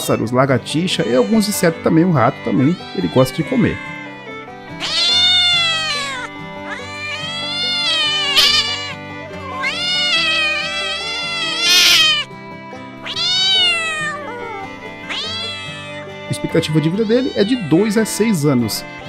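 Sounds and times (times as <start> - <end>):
cat meowing: 0.0 - 12.3, 13.0 - 19.0
background music: 0.0 - 19.0.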